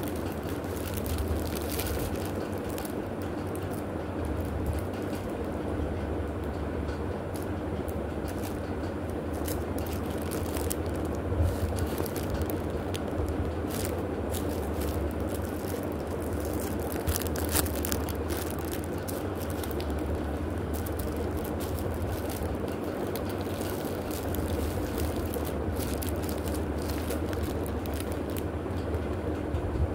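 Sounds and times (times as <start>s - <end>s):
plastic wrapping crinkling: 0.0s - 5.6s, 6.9s - 29.2s
steady low hum: 0.0s - 29.9s.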